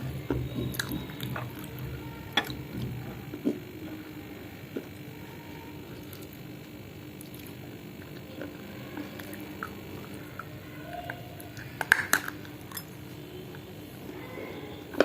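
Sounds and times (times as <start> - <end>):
chewing and crunching clay: 0.0 - 15.0.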